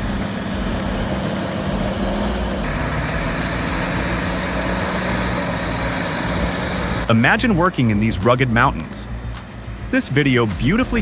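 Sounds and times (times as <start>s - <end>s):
earthmoving machine diesel engine: 0.0s - 11.0s.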